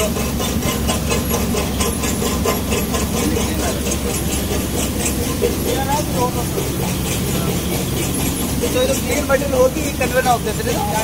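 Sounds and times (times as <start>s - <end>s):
machine mechanical drone: 0.0s - 11.0s.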